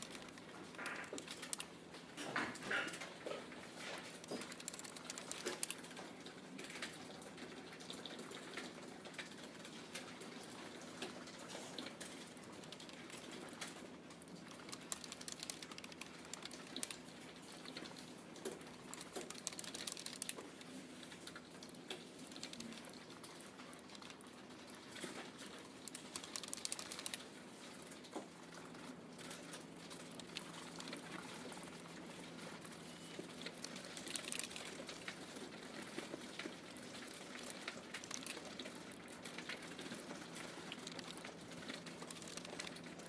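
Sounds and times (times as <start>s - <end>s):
rapid keyboard typing: 0.0s - 6.9s, 11.1s - 43.0s.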